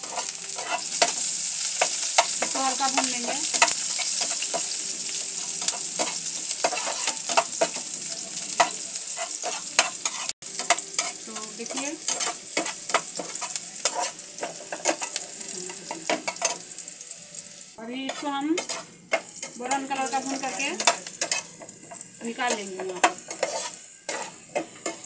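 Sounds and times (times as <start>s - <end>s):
steel spoon scraping a pan: 0.0s - 16.8s, 18.0s - 25.0s
onions sizzling in oil: 0.0s - 25.0s.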